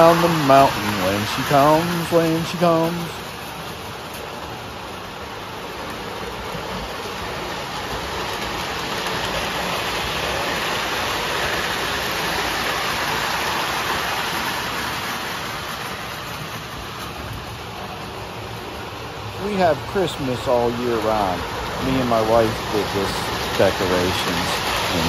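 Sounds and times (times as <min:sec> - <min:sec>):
model train wheels rolling on rails: 0:00.0 - 0:25.0.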